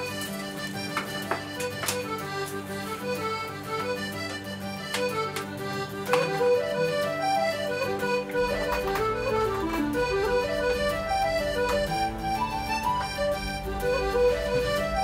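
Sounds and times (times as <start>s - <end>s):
solo accordion melody: 0.0s - 15.0s.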